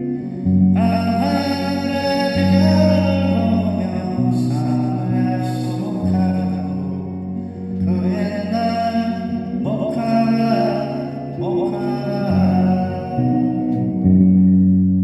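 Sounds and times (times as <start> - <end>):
slow song with sliding melody: 0.0 - 15.0.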